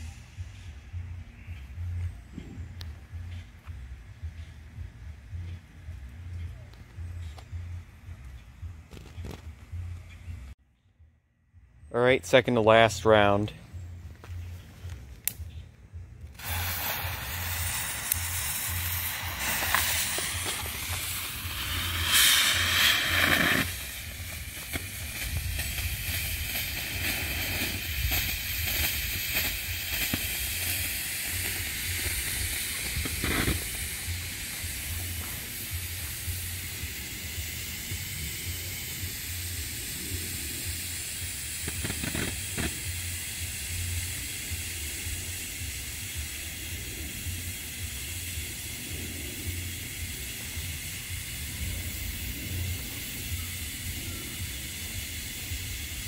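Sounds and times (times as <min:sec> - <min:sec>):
smoke fountain hissing: 0:00.0 - 0:10.0, 0:16.2 - 0:56.0.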